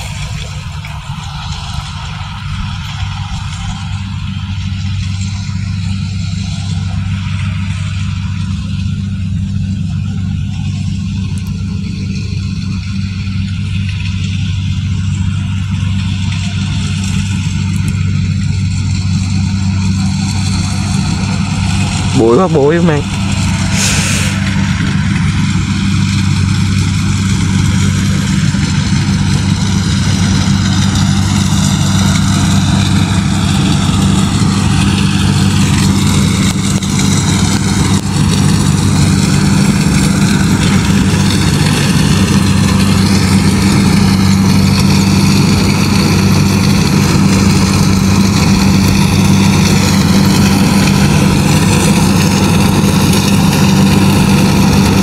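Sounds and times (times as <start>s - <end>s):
diesel engine humming: 0.0s - 55.0s
threshing machinery whirring: 0.0s - 55.0s.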